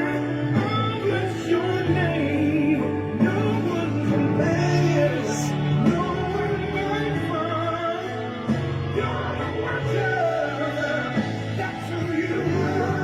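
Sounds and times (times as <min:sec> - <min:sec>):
person singing: 0:00.0 - 0:13.0
sustained instrumental chords: 0:00.0 - 0:13.0.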